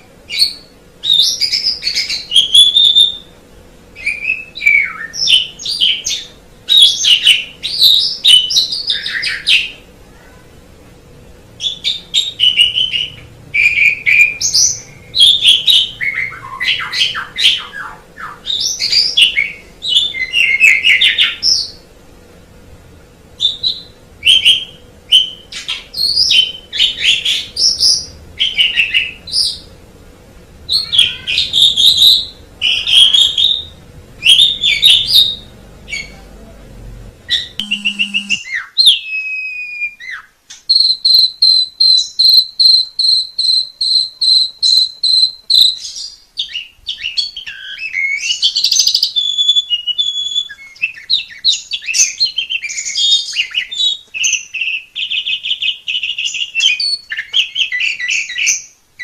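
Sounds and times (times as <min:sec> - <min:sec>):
starling singing: 0:00.0 - 0:03.4, 0:04.0 - 0:09.9, 0:11.6 - 0:21.9, 0:23.4 - 0:36.3, 0:37.2 - 0:58.8
low background hum: 0:00.0 - 0:59.0.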